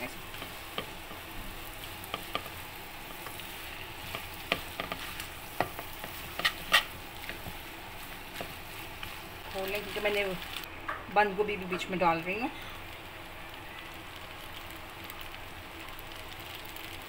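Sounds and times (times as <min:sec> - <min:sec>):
food sizzling in a hot pan: 0:00.0 - 0:17.0.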